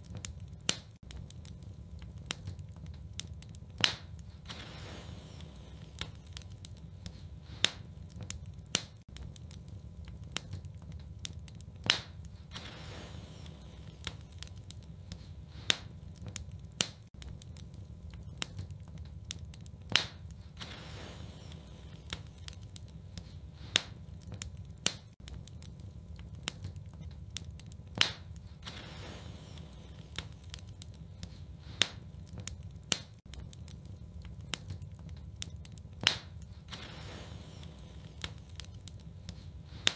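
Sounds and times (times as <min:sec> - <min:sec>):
fire crackling in fireplace: 0:00.0 - 0:39.9
sharp crack of burning wood: 0:00.0 - 0:39.9.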